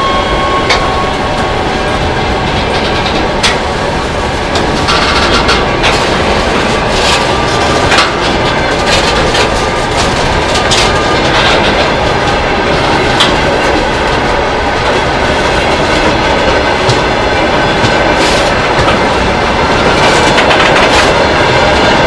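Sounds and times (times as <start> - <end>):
steel wheels rumbling on rail: 0.0 - 22.0
wheels clicking over rail joints: 2.4 - 21.3.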